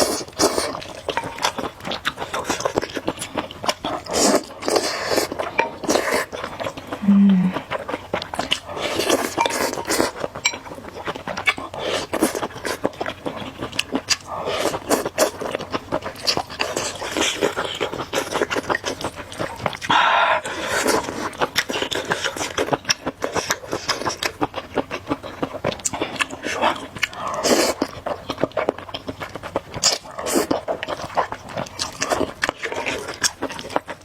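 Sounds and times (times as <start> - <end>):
noodles slurped and chewed: 0.0 - 34.0.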